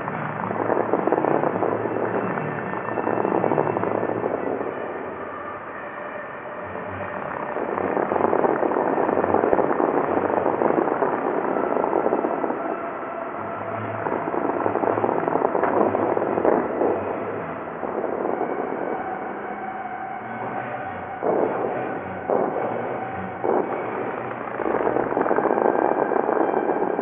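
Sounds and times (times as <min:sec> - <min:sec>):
fountain water jets spraying: 0:00.0 - 0:27.0.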